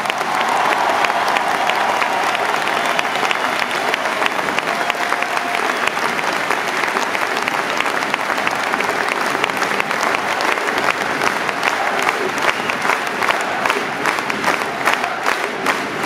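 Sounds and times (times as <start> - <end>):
stadium crowd applauding: 0.0 - 16.0.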